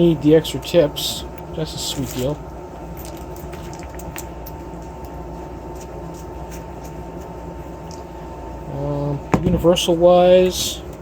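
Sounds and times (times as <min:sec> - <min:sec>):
faint steady whine: 0:00.0 - 0:11.0
low background hum: 0:00.0 - 0:11.0.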